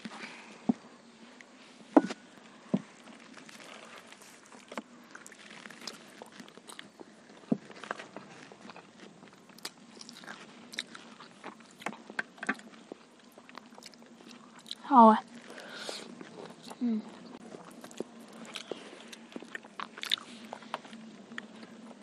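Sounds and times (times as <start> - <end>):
fingers and food on plates: 1.4 - 22.0
chewing crunches: 3.0 - 22.0.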